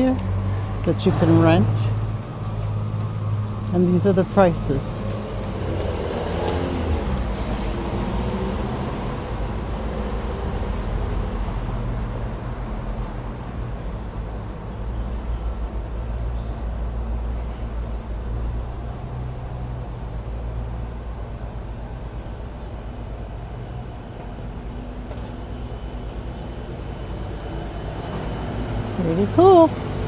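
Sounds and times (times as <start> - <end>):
road vehicles rumbling past: 0.0 - 30.0.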